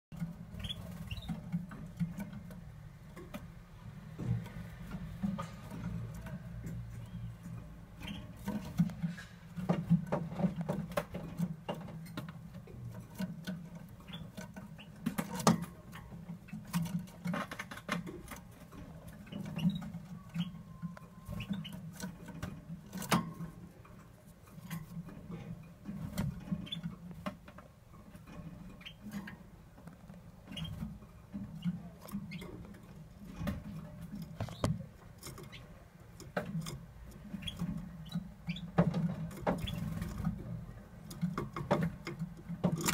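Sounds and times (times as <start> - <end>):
bird clicking and scratching in cage: 0.1 - 42.9.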